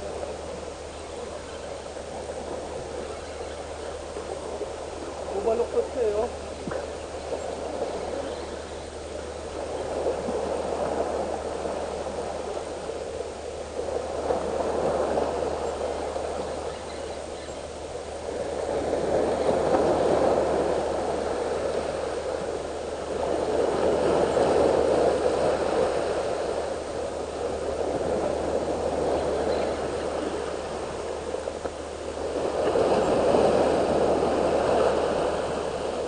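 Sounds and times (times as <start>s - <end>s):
sea waves washing among rocks: 0.0s - 36.0s.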